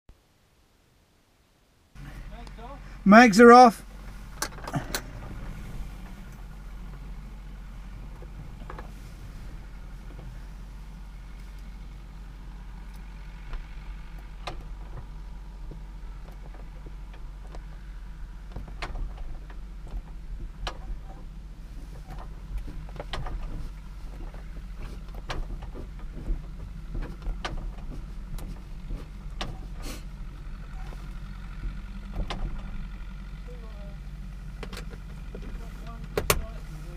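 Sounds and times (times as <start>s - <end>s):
low rumble: 2.0s - 36.9s
propeller clicks and knocks: 4.0s - 7.2s, 7.8s - 10.4s, 12.7s - 36.9s.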